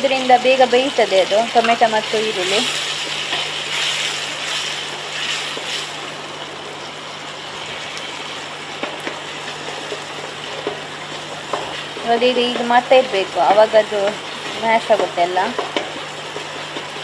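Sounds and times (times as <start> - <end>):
onion and tomato sizzling: 0.0 - 17.0.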